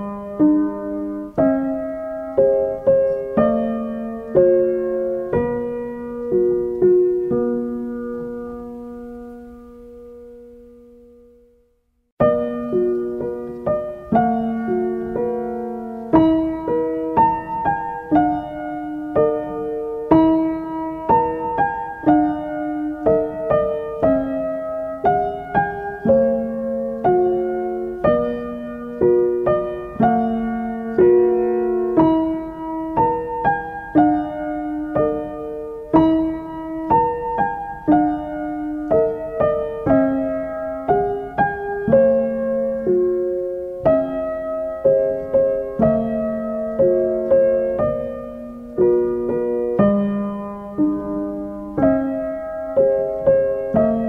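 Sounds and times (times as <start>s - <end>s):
gentle piano melody: 0.0s - 54.0s.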